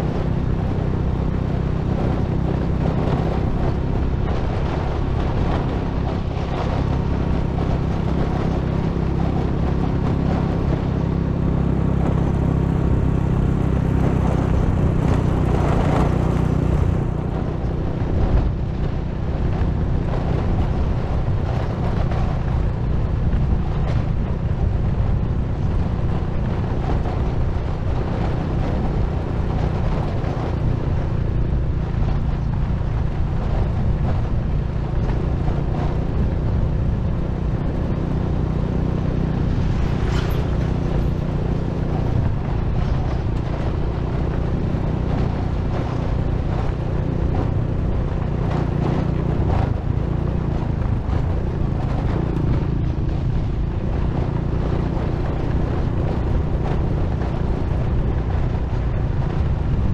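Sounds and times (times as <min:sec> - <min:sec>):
small vehicle engine running: 0:00.0 - 0:59.9
wind rushing over microphone: 0:00.0 - 0:59.9.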